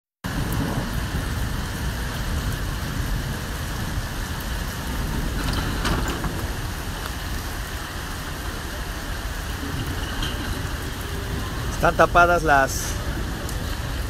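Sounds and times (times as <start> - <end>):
heavy rain on a street: 0.2 - 14.0.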